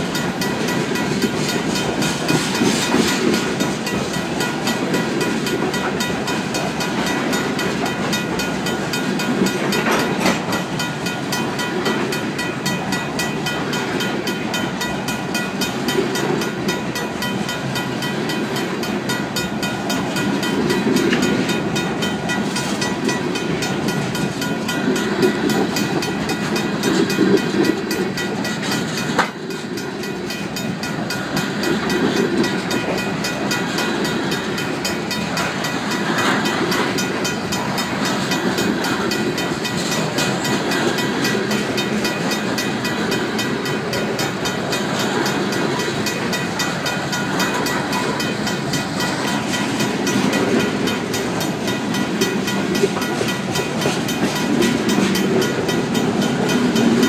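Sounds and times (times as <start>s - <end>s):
crossing bell ringing: 0.0s - 57.0s
freight train wheels clicking: 0.0s - 57.0s.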